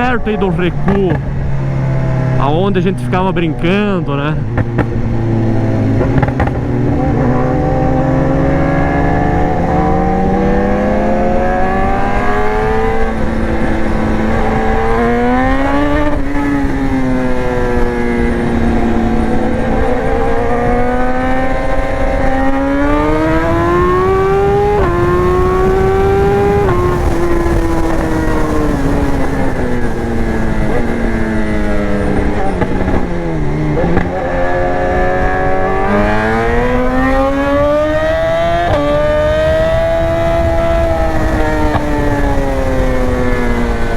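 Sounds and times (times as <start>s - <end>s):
motorcycle engine revving: 0.0s - 43.9s
wind noise: 0.0s - 43.9s.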